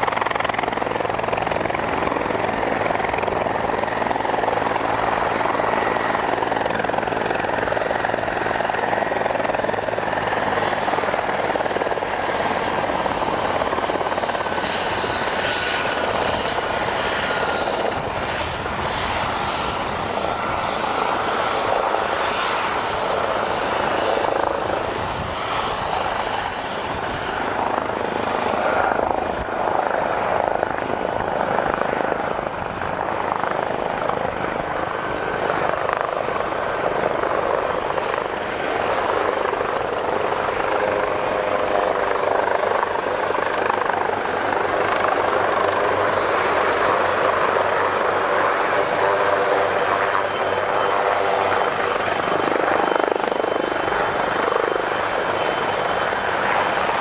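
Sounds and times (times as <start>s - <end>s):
aircraft turbine engines running: 0.0s - 57.0s
high turbine whine: 0.0s - 57.0s.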